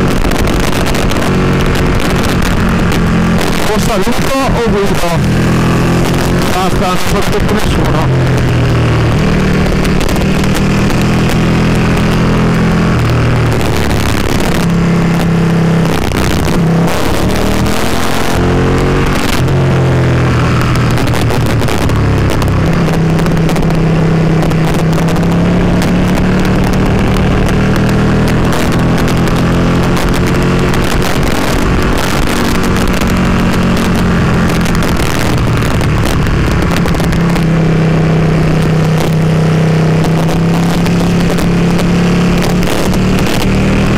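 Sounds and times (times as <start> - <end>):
motorcycle engine revving: 0.0 - 43.9
wind rushing on microphone: 0.0 - 43.9.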